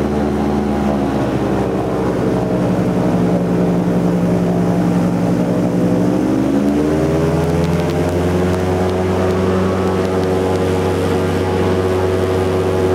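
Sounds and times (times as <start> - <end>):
airboat engine and propeller: 0.0 - 12.9.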